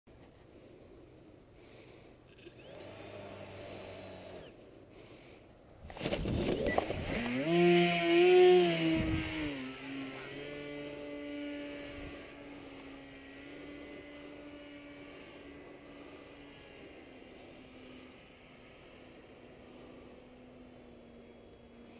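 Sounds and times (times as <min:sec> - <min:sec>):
paramotor engine drone passing: 0:01.6 - 0:05.4, 0:06.4 - 0:21.9.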